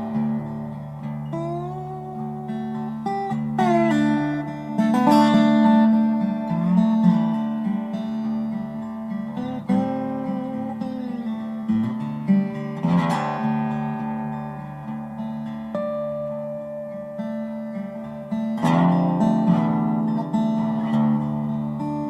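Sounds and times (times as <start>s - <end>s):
acoustic guitar picking and strumming: 0.0s - 22.0s.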